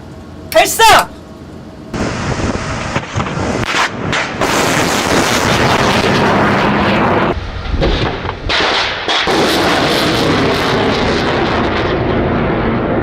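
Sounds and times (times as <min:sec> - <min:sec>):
rocket motor roaring: 0:01.9 - 0:13.0.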